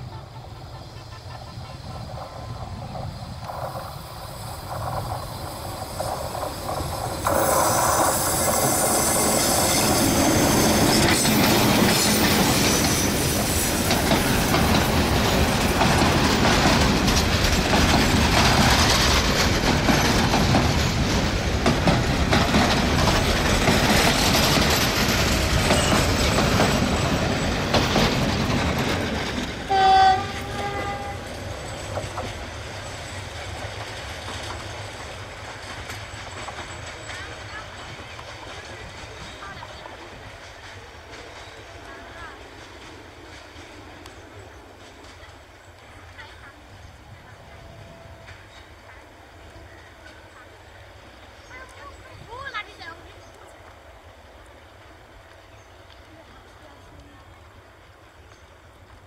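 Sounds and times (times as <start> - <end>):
train running rush: 0.0 - 59.0
train wheels clattering on rails: 0.0 - 59.0.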